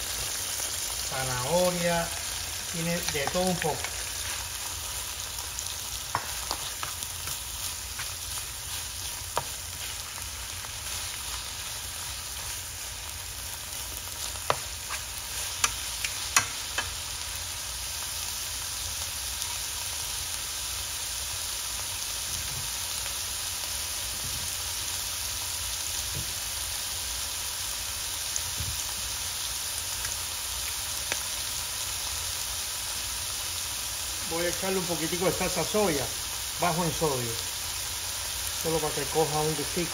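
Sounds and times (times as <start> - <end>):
vegetables sizzling in a frying pan: 0.0 - 39.9.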